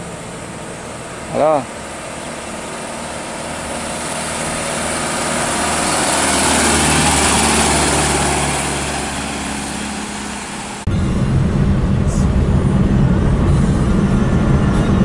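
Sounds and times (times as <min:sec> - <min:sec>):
truck diesel engine passing: 0:00.0 - 0:15.0
tyre road noise: 0:00.0 - 0:15.0.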